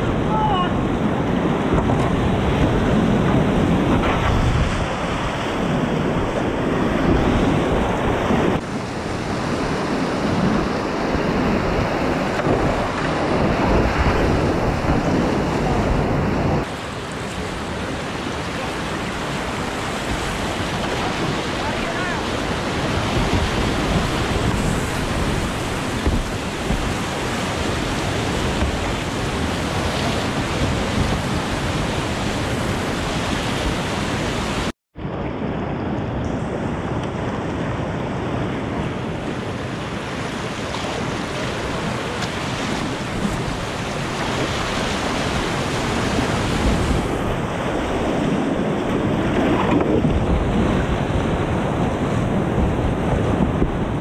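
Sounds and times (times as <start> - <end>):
whitewater rushing over rocks: 0.0 - 34.7, 38.3 - 53.4
wind noise on microphone: 0.0 - 54.0.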